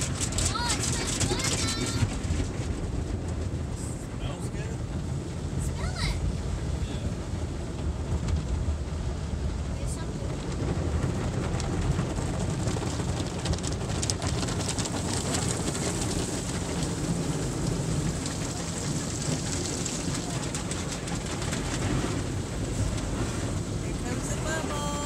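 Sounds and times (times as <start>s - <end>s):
low rumble: 0.0s - 25.0s
water jets spraying on car: 0.0s - 25.0s.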